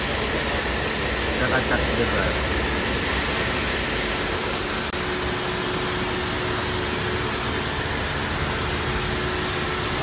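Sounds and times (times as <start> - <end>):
pressure washer water jet hissing: 0.0 - 10.0.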